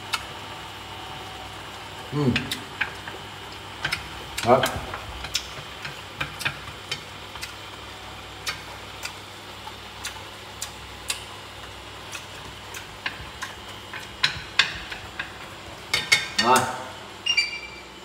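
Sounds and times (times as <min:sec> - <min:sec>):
range hood fan humming: 0:00.0 - 0:18.0.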